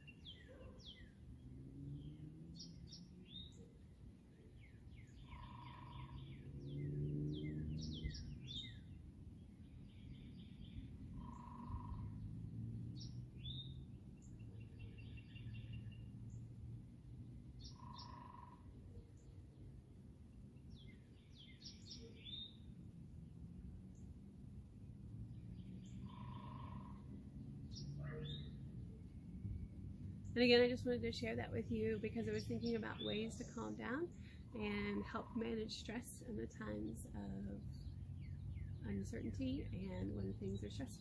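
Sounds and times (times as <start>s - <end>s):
songbirds chirping and singing: 0.0s - 23.0s, 24.8s - 41.0s.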